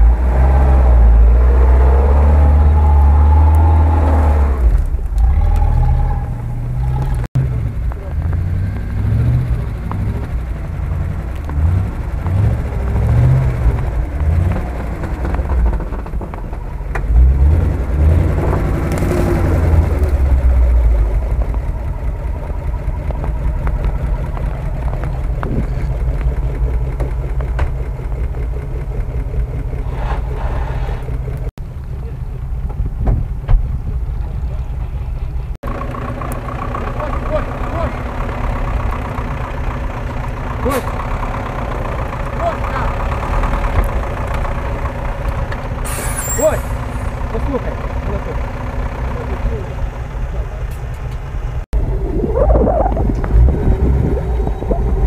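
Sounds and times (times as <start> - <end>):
off-road vehicle engines labouring: 0.0 - 55.0.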